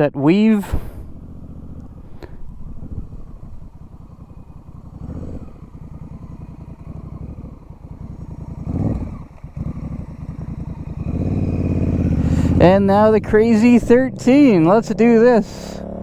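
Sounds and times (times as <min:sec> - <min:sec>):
motorcycle engine running: 0:00.3 - 0:16.0.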